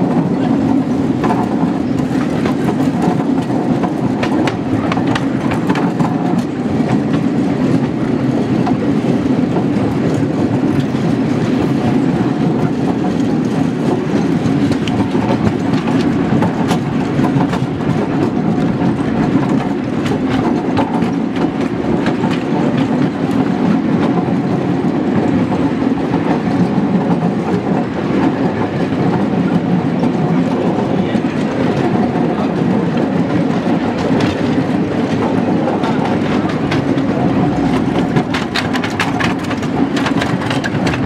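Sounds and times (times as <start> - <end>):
steel wheels rumbling on rails: 0.0 - 41.0
wheels clicking over rail joints: 0.0 - 41.0.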